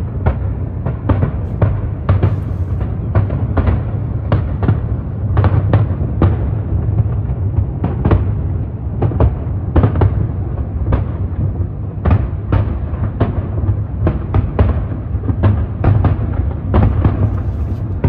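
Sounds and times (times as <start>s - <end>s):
continuous low rumble: 0.0s - 18.0s
fireworks booming: 0.0s - 18.0s.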